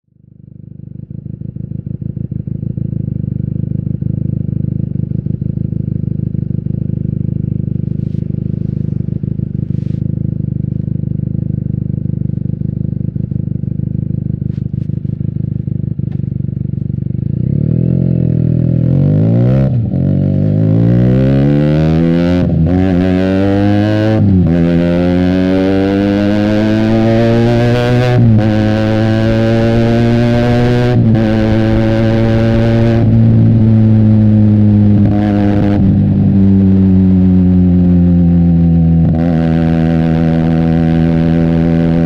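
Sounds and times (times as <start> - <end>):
motorcycle engine idling and revving: 0.1 - 42.0.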